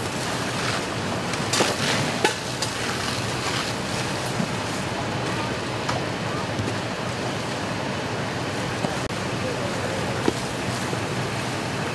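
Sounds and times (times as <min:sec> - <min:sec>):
fire hose streams rushing: 0:00.0 - 0:11.9.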